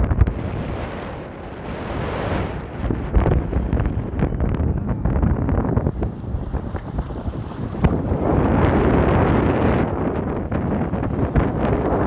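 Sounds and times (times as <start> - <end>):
wind on a microphone: 0.0 - 12.0.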